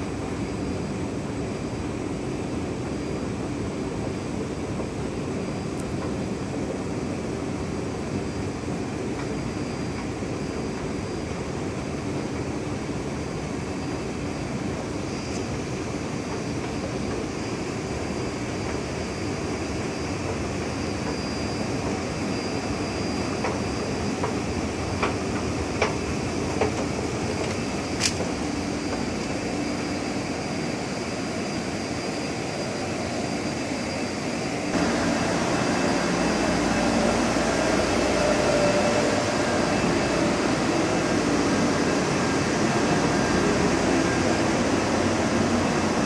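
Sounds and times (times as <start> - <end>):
metro platform hum: 0.0 - 46.0
metro train car running hum: 0.0 - 46.0.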